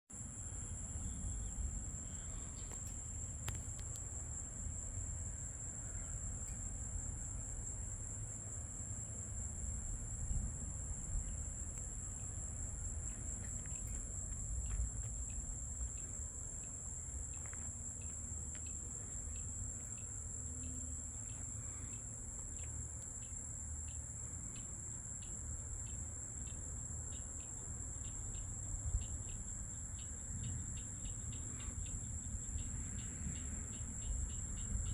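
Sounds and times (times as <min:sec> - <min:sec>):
insects droning: 0:00.1 - 0:34.9
quick insect chirp: 0:00.2 - 0:34.9.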